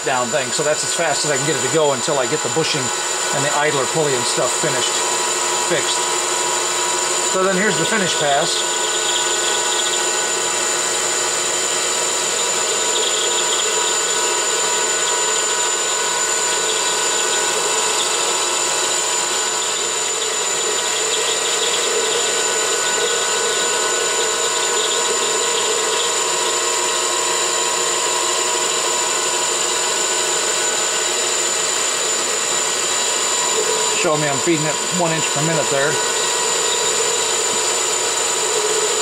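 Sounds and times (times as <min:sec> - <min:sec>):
high machine whine: 0:00.0 - 0:39.0
metal lathe cutting: 0:00.0 - 0:39.0
noisy hum: 0:00.0 - 0:39.0.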